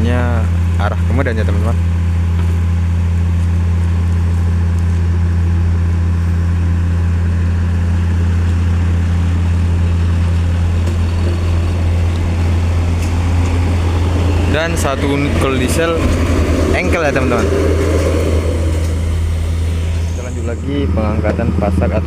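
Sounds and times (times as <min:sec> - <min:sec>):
engine low drone: 0:00.0 - 0:22.0.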